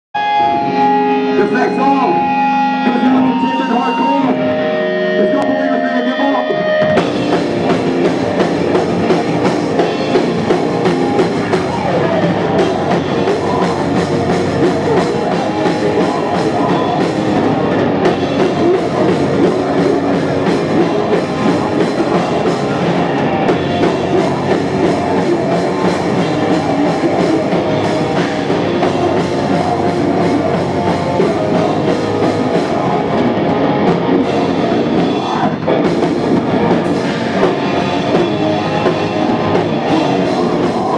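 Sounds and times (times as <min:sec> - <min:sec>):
electric bass: 0:00.2 - 0:40.9
electric guitar: 0:00.2 - 0:40.9
drum kit: 0:06.6 - 0:40.9.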